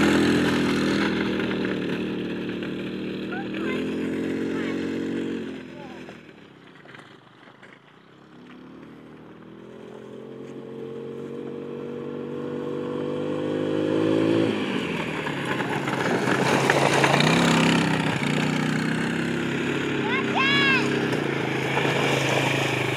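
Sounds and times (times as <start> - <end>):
quad bike engine: 0.0 - 22.9.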